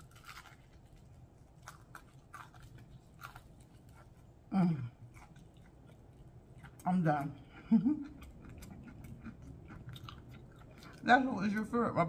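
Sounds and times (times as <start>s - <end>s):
person chewing crunchy food: 0.0s - 11.7s.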